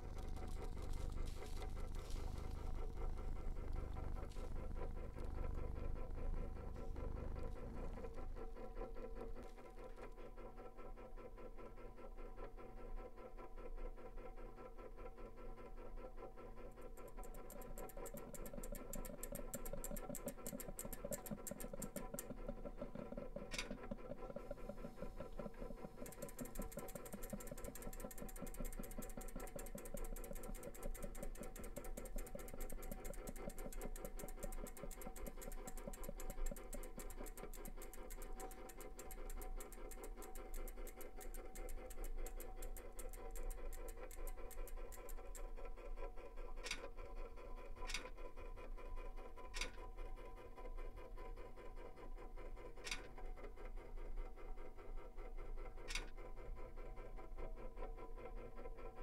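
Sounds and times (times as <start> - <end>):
fast mechanical clatter: 0.0 - 13.3, 13.9 - 59.0
steady low hum: 0.0 - 59.0.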